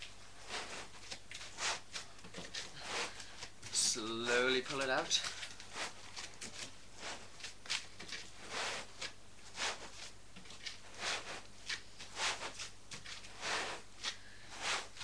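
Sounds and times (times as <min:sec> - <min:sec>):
foam and cardboard scraping: 0:00.0 - 0:15.0.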